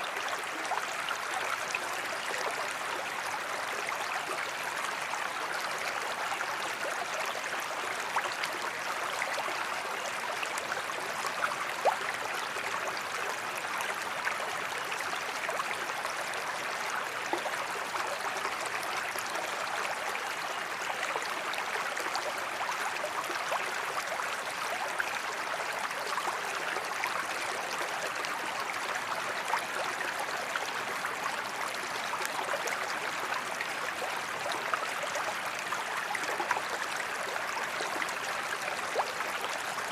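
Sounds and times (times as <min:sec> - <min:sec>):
creek running over stones: 0:00.0 - 0:39.9.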